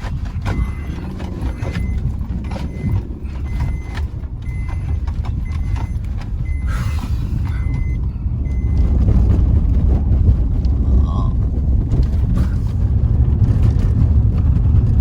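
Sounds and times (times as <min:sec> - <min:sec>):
car rumbling over rocky road: 0:00.0 - 0:15.0.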